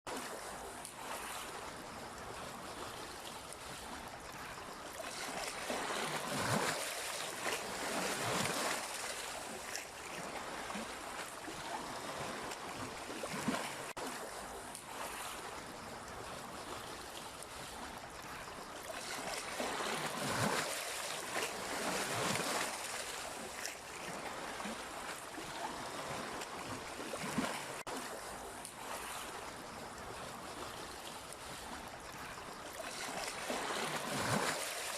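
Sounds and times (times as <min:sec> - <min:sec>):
sea waves washing onto shore: 0:00.1 - 0:34.9
small water splashes: 0:00.1 - 0:34.9.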